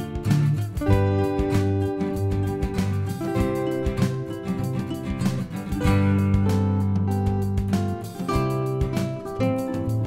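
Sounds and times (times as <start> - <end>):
instrumental music with beat: 0.0 - 10.0.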